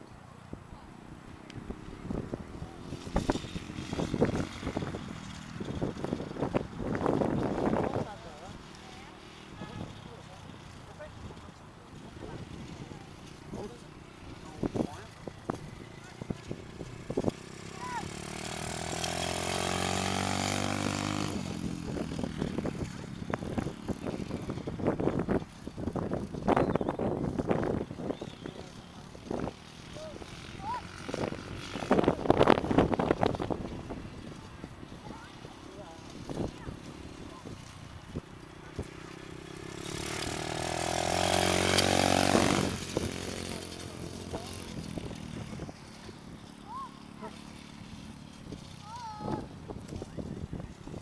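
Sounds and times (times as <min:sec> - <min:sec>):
motorbike engine revving: 0:01.0 - 0:51.0.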